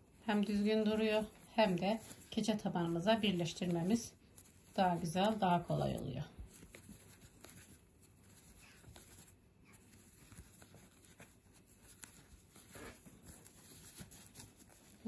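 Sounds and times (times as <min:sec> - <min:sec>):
faint yarn rustling: 0:00.0 - 0:15.0.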